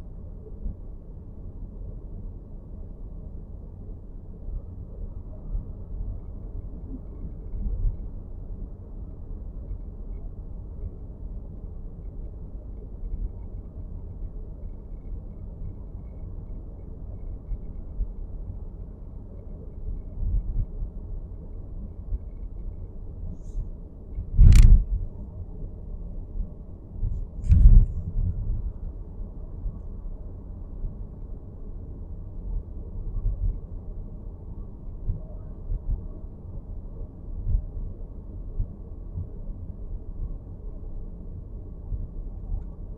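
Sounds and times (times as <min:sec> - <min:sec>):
road rumble inside car: 0:04.3 - 0:42.9.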